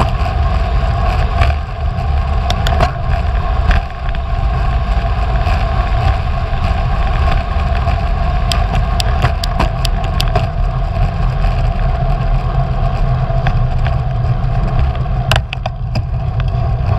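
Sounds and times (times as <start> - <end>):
rolling road noise: 0.0 - 16.9
wind buffeting microphone: 0.0 - 16.9.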